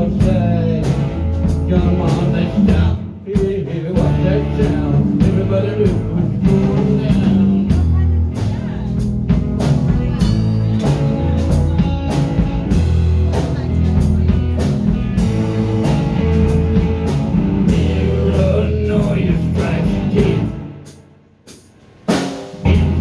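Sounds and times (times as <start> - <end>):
electric guitar: 0.0 - 20.9, 22.6 - 23.0
bass: 0.0 - 23.0
drums: 0.0 - 23.0.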